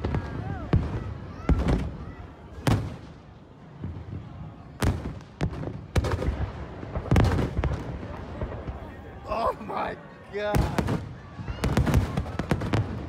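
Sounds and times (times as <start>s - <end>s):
fireworks booming: 0.0s - 9.7s, 10.5s - 13.0s.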